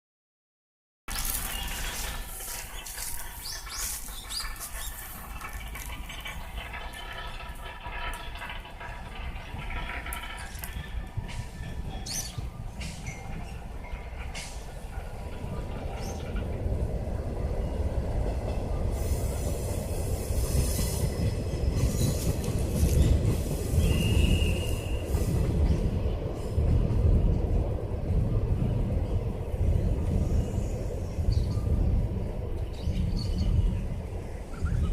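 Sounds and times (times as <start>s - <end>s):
train rumbling on track: 1.1s - 34.9s.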